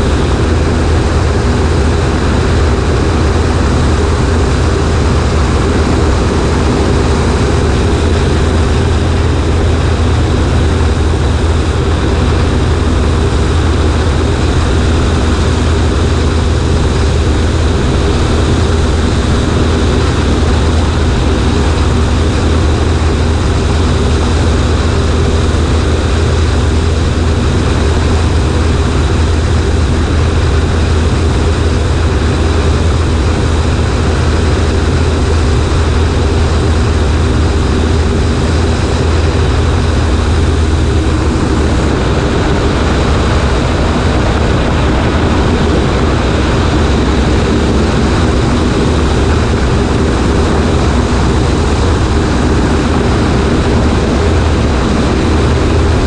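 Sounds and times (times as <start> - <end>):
propeller plane engine drone: 0.0 - 56.0
rushing air: 0.0 - 56.0.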